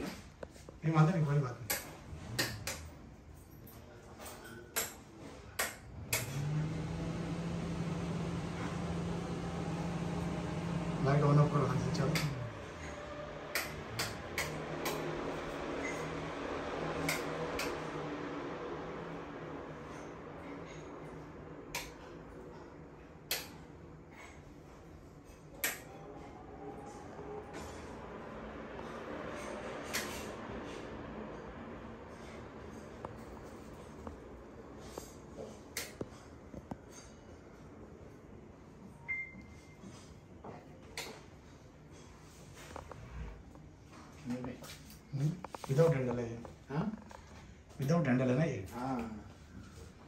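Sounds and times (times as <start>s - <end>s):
cooker hood fan humming: 4.8s - 50.0s.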